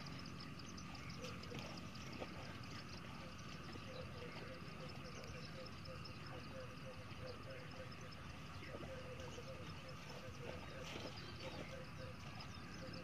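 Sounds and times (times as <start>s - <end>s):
low pulsing animal calls: 0.0s - 13.0s.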